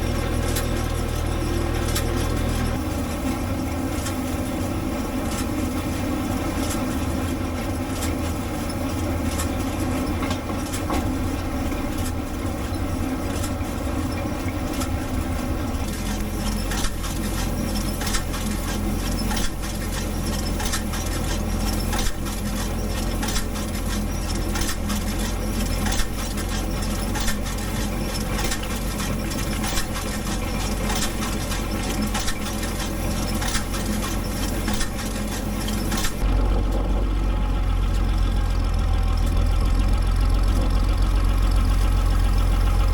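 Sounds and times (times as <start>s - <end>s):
sharp clicks and rattles: 0.0s - 42.9s
tractor engine running: 0.0s - 42.9s.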